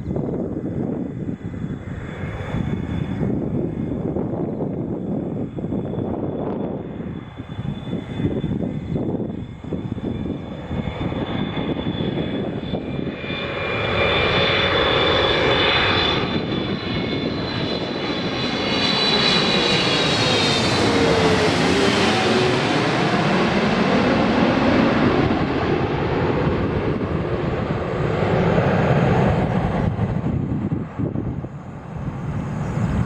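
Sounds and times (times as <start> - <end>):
jet engine high whine: 0.0 - 33.0
jet engine rumble: 0.0 - 33.0.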